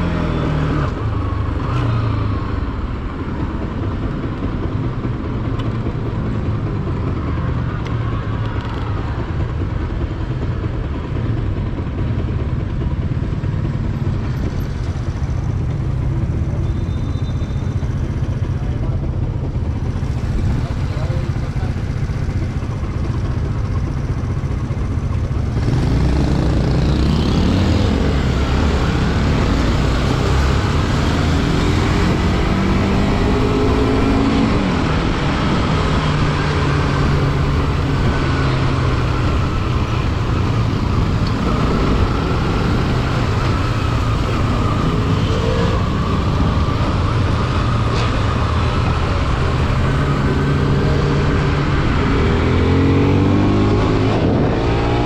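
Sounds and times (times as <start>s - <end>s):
motorcycle engine accelerating: 0.0s - 55.0s
wind and road noise: 0.0s - 55.0s.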